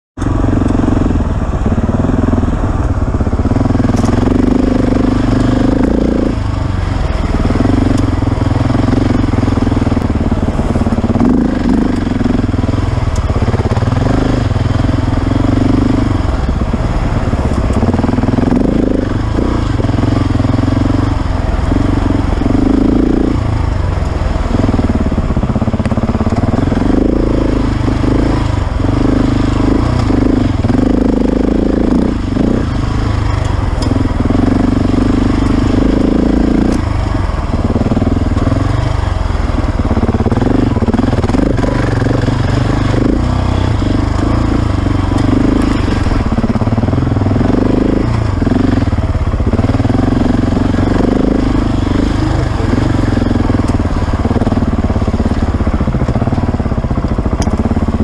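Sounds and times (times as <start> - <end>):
motorcycle engine revving: 0.2 - 58.0.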